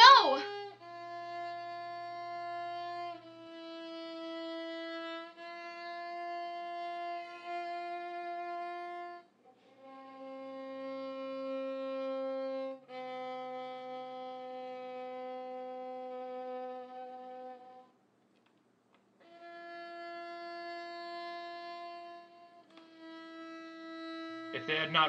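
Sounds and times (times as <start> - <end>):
solo violin long notes: 0.0 - 18.0, 19.2 - 25.0.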